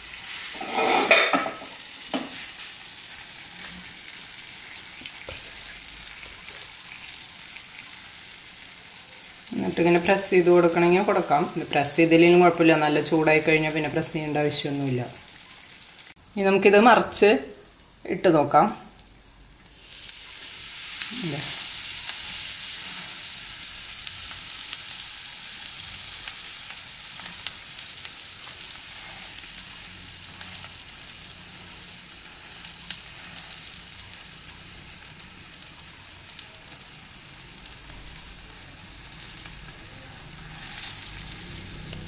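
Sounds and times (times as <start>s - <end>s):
butter sizzling on a griddle: 0.0s - 16.2s, 19.0s - 42.0s.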